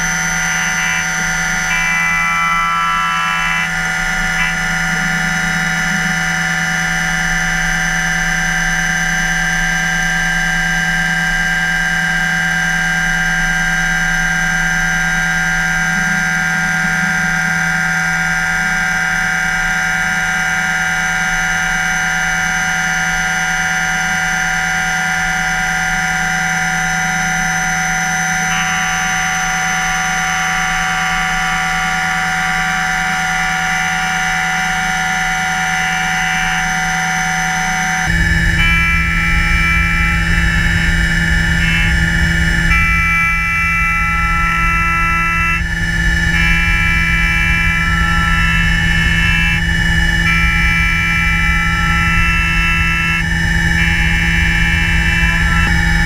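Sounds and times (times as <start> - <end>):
milling machine spindle whine: 0.0 - 56.0.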